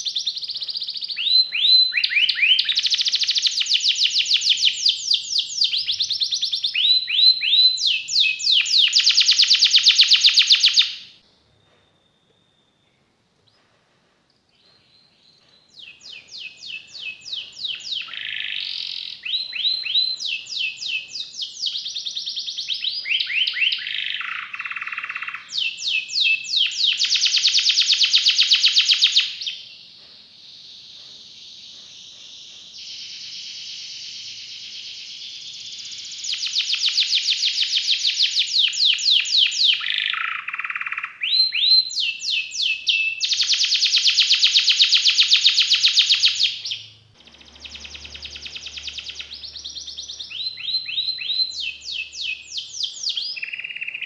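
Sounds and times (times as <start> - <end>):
canary singing trills: 0.0 - 12.8, 14.6 - 54.0.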